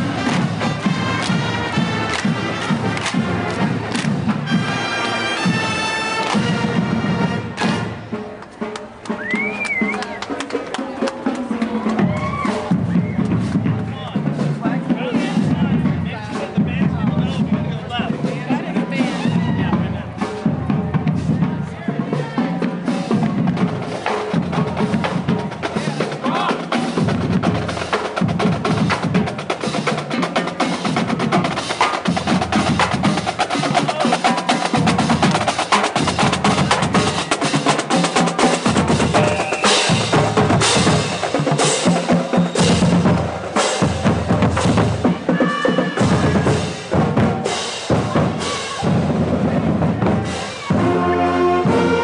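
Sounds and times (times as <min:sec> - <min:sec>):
bass drum beats: 0:00.0 - 0:04.8, 0:09.0 - 0:52.0
horns and saxophones: 0:00.0 - 0:52.0
snare drums: 0:00.0 - 0:52.0.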